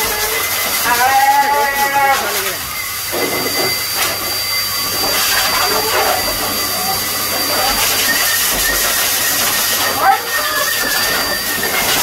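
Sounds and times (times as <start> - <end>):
shower sprayer hissing: 0.0 - 12.0.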